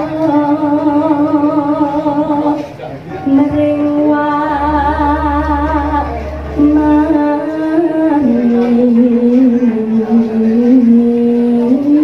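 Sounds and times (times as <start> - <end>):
woman singing through microphone: 0.0 - 12.0.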